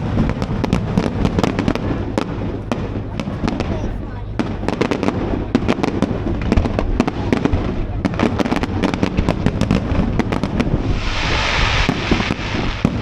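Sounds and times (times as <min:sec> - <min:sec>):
fireworks cracking and popping: 0:00.0 - 0:13.0
hissing rush: 0:00.0 - 0:13.0
low rumble of bangs: 0:00.0 - 0:13.0.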